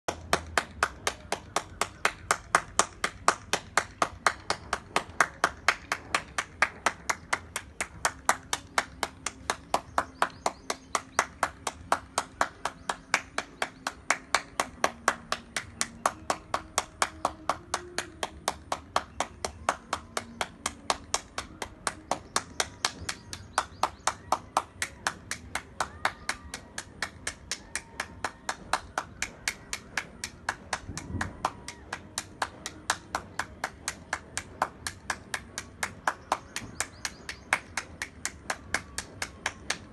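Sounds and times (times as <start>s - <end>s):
person clapping hands: 0.1s - 39.9s.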